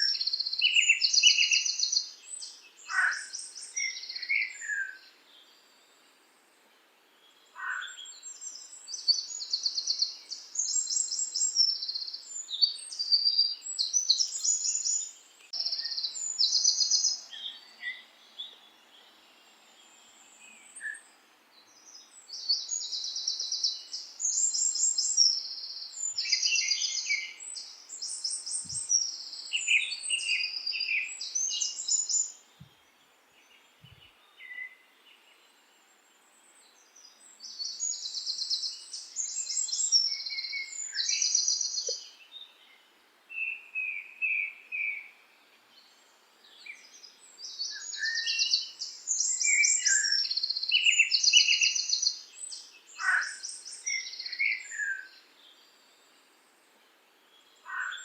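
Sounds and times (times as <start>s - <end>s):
birds chirping and trilling: 0.0s - 6.2s, 7.1s - 56.6s, 57.2s - 58.0s.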